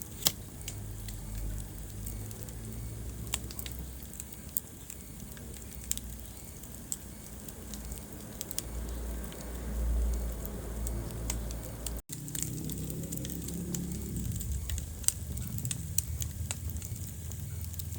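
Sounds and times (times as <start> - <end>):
fireplace fire crackling: 0.0 - 17.9.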